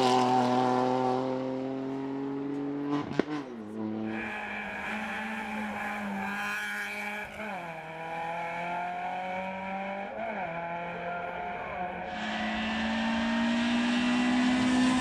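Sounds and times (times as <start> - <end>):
race car engine: 0.0 - 15.0.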